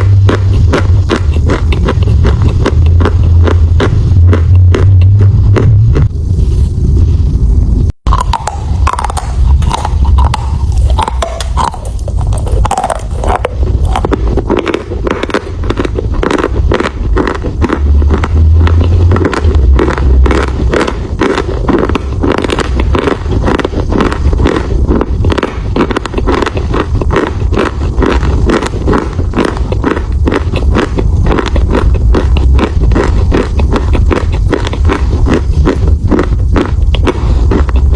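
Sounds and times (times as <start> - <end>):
chewing chalk crunches: 0.0 - 5.7, 8.1 - 37.9
low microphone rumble: 0.0 - 37.9.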